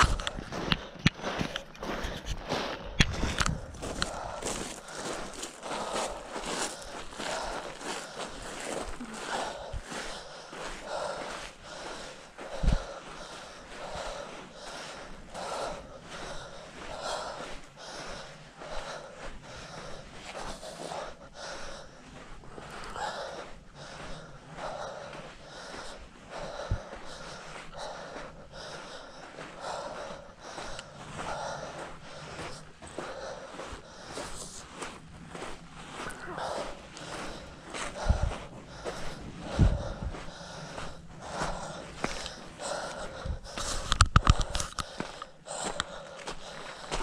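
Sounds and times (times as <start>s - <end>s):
person breathing hard: 0.0s - 47.0s.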